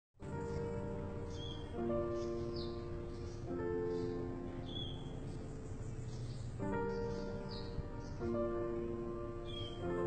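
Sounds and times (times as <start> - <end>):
soft slow background music: 0.2 - 10.0.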